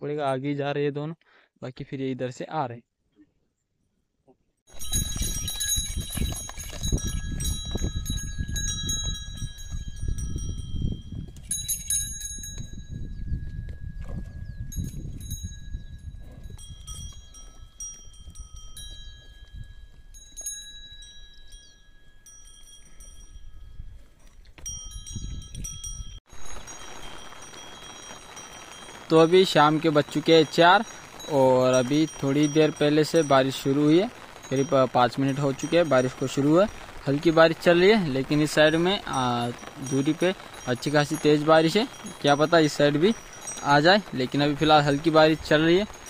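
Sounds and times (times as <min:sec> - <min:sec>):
cattle bells ringing: 0:04.7 - 0:46.0.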